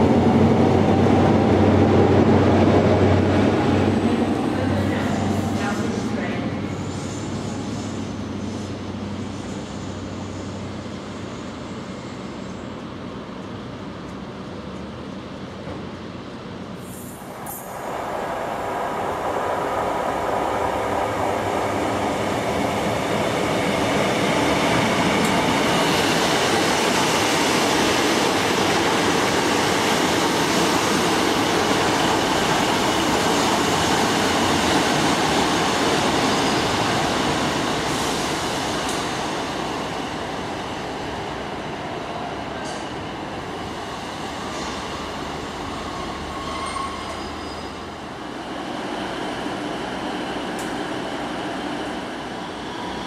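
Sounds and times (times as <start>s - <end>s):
diesel train passing on rails: 0.0s - 53.0s.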